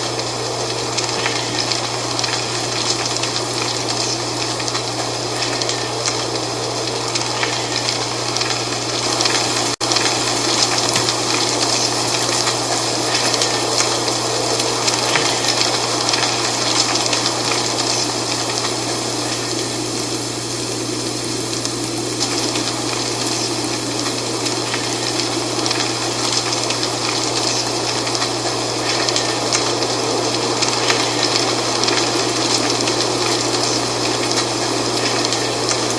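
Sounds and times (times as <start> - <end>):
dry leaves rustling in wind: 0.0 - 35.9.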